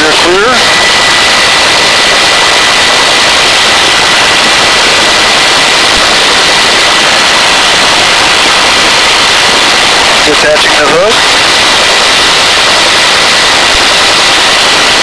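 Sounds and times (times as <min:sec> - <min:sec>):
helicopter rotor and turbine rush: 0:00.0 - 0:15.0
thin high whine: 0:00.0 - 0:15.0.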